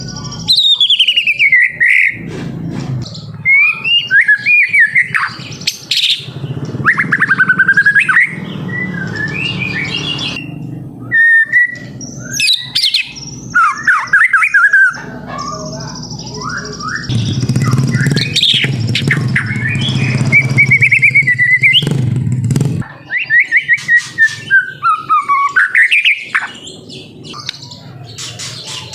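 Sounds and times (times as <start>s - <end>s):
bird singing whistles and trills: 0.0s - 2.2s, 3.0s - 22.0s, 23.0s - 28.9s.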